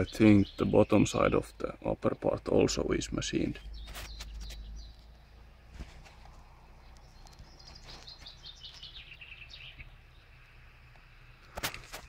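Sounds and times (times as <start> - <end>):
faint birds chirping: 0.0 - 11.6.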